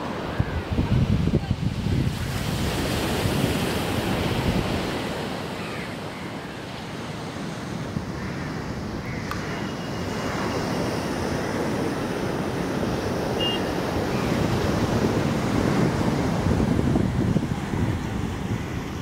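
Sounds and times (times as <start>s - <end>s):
wind buffeting microphone: 0.0s - 5.5s, 6.9s - 19.0s
sea surf breaking: 0.0s - 19.0s.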